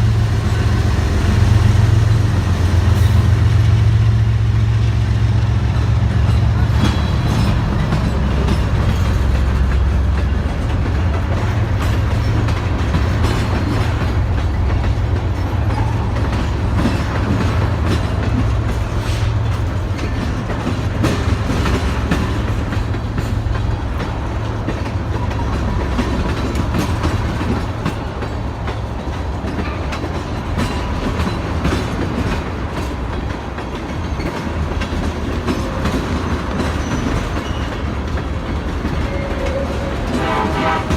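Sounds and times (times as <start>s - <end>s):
train engine rumble: 0.0s - 40.9s
train wheels clicking over rail joints: 0.0s - 40.9s.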